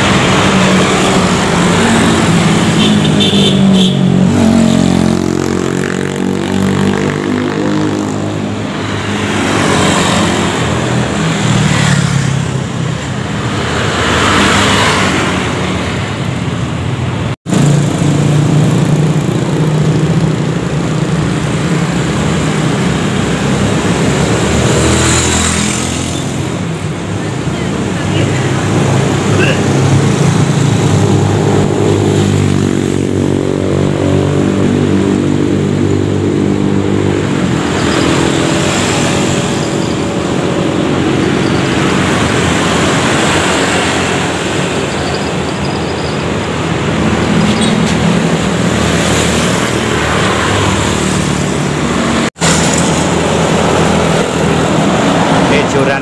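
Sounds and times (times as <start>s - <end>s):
cars driving past: 0.0s - 56.0s
motorcycles driving past: 0.0s - 56.0s.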